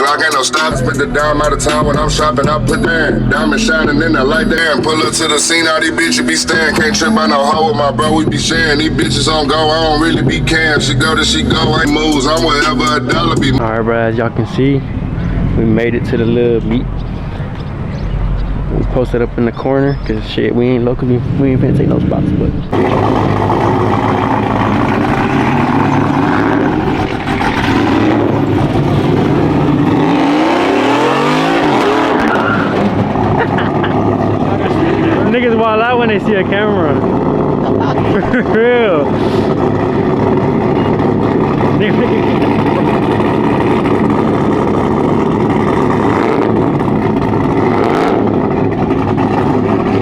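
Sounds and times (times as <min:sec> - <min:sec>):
engine revving up: 0:00.0 - 0:19.6, 0:20.8 - 0:50.0
vehicle engines running: 0:00.0 - 0:50.0.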